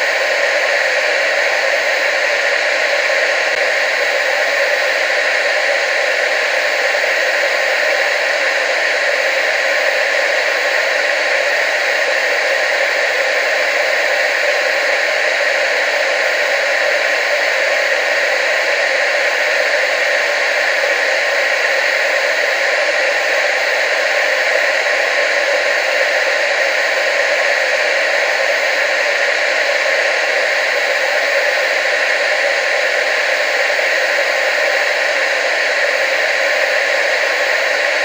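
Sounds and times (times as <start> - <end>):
television static hiss: 0.0 - 38.0.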